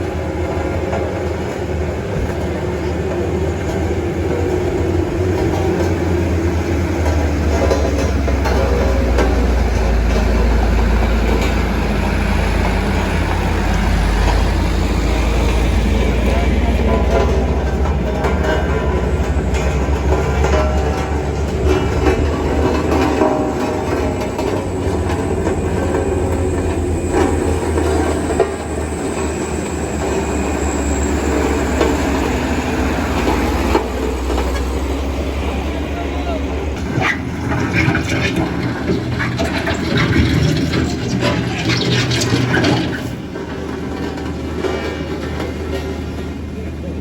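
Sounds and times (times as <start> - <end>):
clanks and knocks from vehicle body: 0.0 - 30.4, 36.6 - 46.6
diesel engine rumbling: 0.0 - 47.0
road noise: 0.0 - 47.0.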